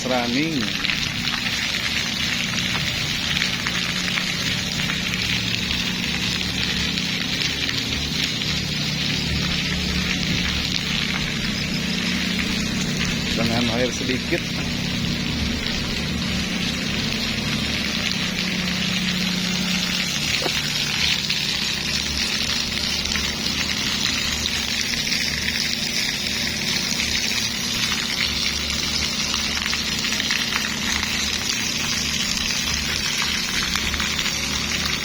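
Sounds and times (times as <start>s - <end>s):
water splashing in a fountain: 0.0s - 35.0s
low hum: 0.6s - 35.0s.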